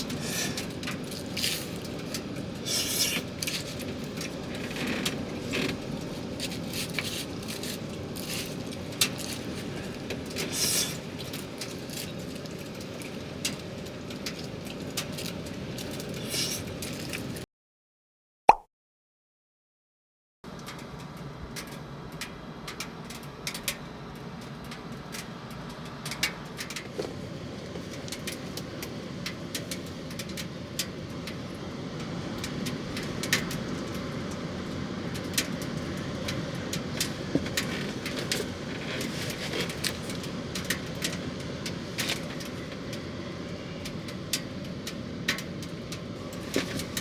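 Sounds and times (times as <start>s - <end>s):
wood fire crackling and popping: 0.0s - 17.4s, 23.0s - 47.0s.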